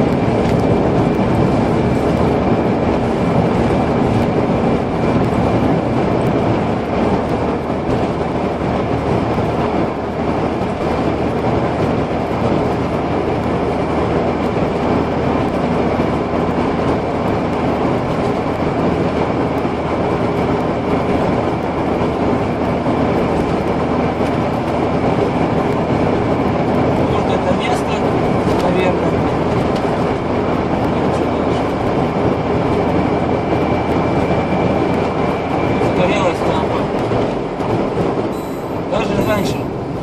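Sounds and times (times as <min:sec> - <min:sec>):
road and engine noise in car: 0:00.0 - 0:40.0.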